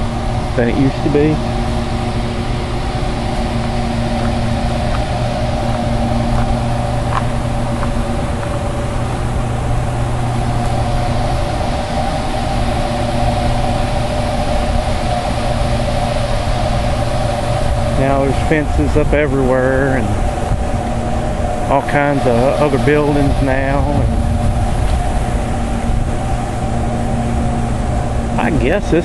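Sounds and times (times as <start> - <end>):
even rushing noise: 0.0 - 29.0
machinery humming: 0.0 - 29.0.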